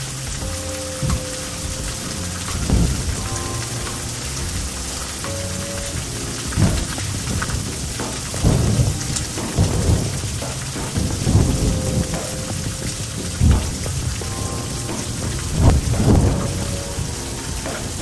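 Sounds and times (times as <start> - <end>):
heavy rain: 0.0 - 18.0
low thunder rumbles: 0.0 - 18.0.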